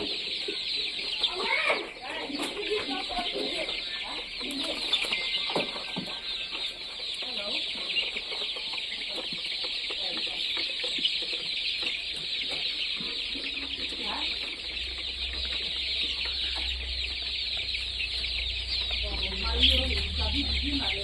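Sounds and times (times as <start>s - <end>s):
chickens chattering: 0.0s - 21.0s.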